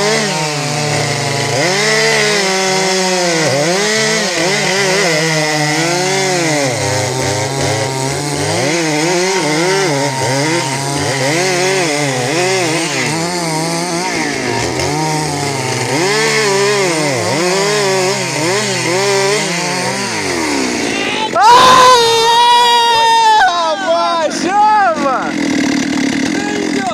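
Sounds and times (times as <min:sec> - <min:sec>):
chainsaws cutting wood: 0:00.0 - 0:26.9.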